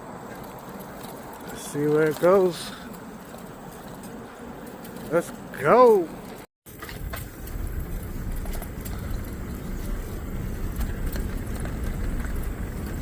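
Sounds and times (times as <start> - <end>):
electric bike rolling on pavement: 0.0 - 13.0
small clicks and rattles: 0.2 - 13.0.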